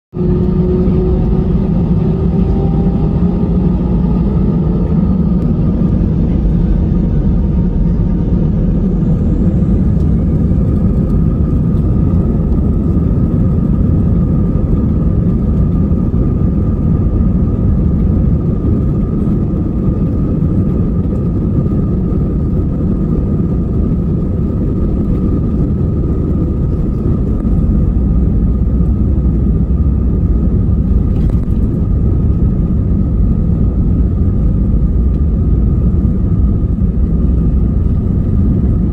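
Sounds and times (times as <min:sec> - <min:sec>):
jet engines rumbling and whining: 0:00.1 - 0:38.9.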